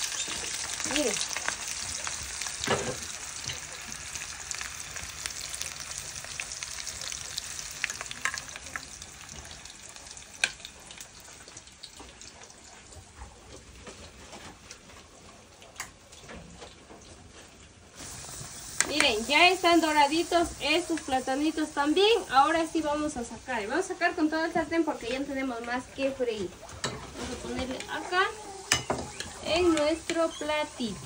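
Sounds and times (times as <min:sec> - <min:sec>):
plantain sizzling in a pan: 0:00.0 - 0:13.2, 0:17.4 - 0:31.0.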